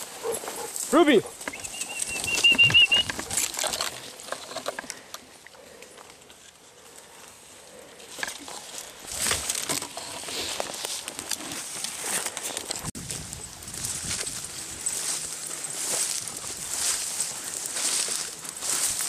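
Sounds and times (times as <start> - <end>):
rustling in dry grass and brush: 0.0 - 19.0.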